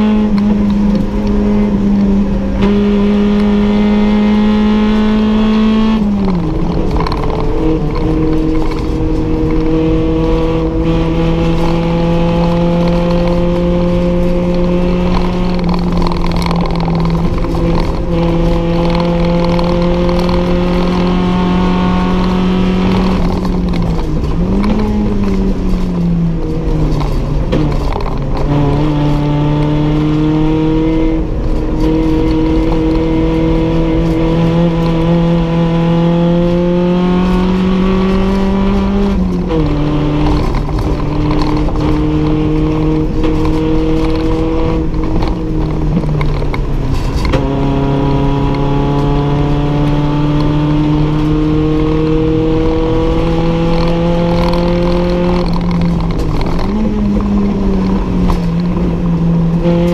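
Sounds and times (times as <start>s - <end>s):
racing engine at high revs: 0.0s - 59.9s.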